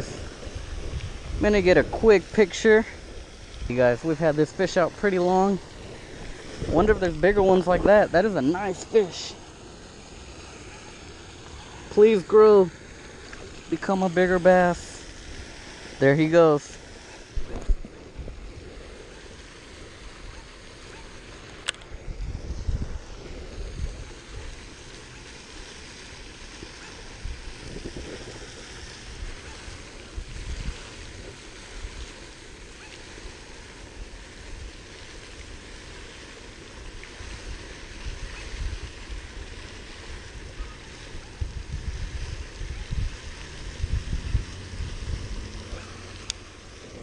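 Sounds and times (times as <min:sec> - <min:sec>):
fountain water splashing: 0:00.0 - 0:47.0
wind rumbling on microphone: 0:00.0 - 0:47.0.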